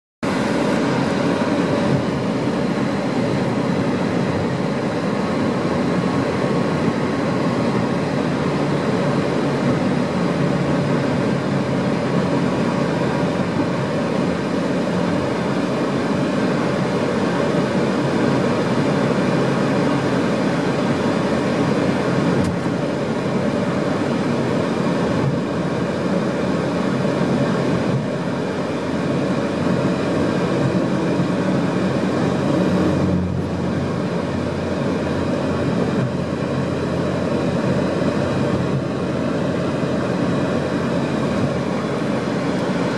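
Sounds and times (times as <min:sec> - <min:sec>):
car tyres and engine rumble: 0:00.2 - 0:42.9.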